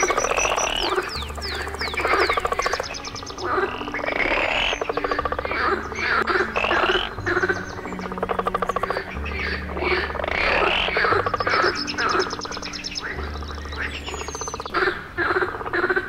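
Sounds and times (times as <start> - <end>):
background music: 0.0 - 16.0
frogs croaking: 0.0 - 16.0.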